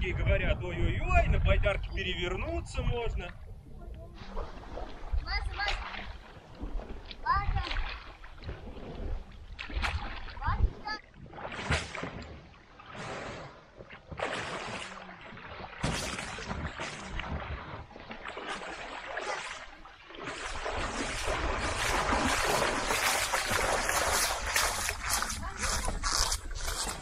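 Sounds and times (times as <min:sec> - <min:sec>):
shallow water sloshing and splashing: 0:02.7 - 0:27.0
splashing footsteps wading: 0:04.3 - 0:27.0.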